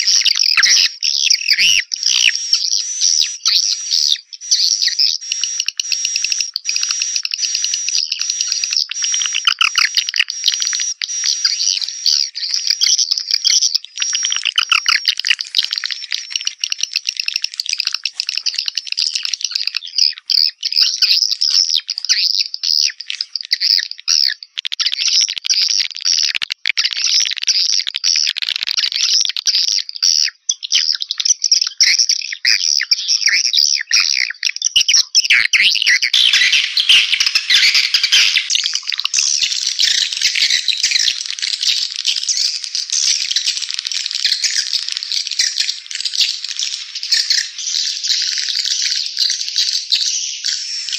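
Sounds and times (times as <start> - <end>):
swiftlets chirping and twittering: 0.0 - 28.3, 35.3 - 50.9.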